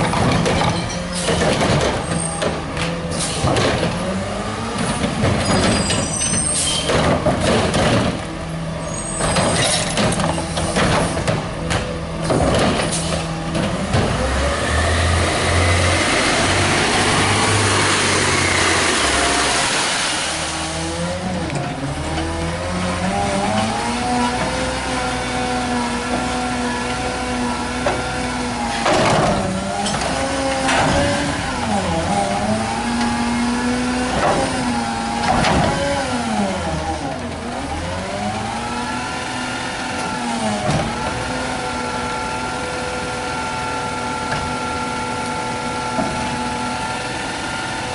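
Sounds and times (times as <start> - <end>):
garbage truck engine revving: 0.0 - 47.9.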